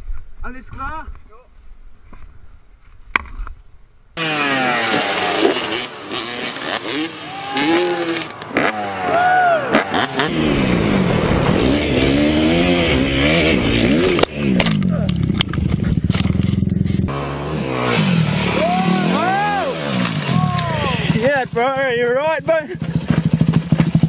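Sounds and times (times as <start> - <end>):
dirt bike engines revving: 4.2 - 24.0.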